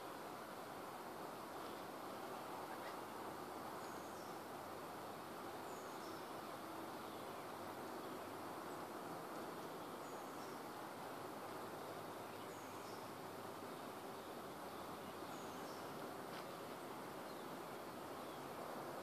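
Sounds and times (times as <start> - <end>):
steady outdoor hiss: 0.0 - 19.0
small birds chirping: 1.6 - 4.6, 5.5 - 18.6.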